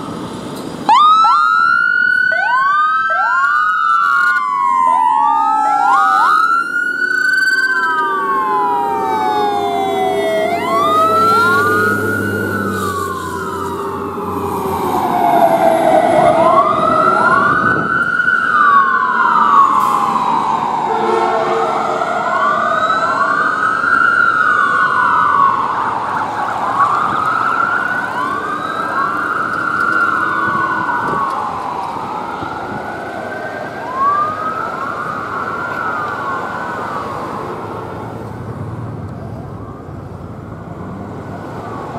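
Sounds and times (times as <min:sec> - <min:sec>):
wailing sirens: 0:00.0 - 0:41.9.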